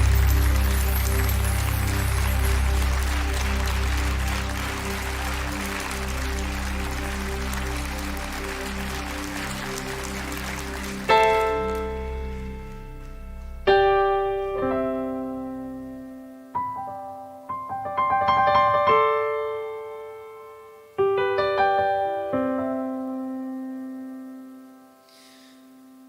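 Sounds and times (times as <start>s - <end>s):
solo piano slow chords: 0.0s - 26.0s.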